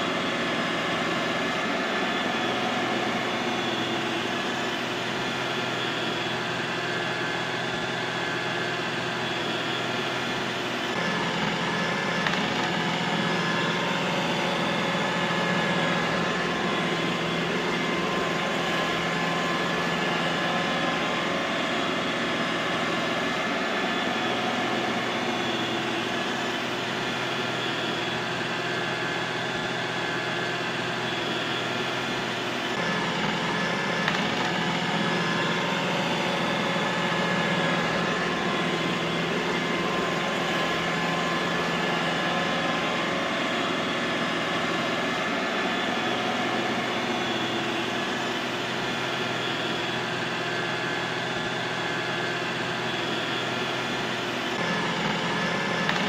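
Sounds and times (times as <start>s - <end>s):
robot vacuum cleaner running: 0.0s - 56.0s.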